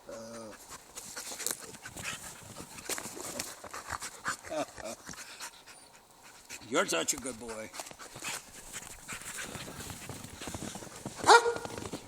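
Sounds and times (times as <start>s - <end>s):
dogs panting: 0.0s - 11.3s.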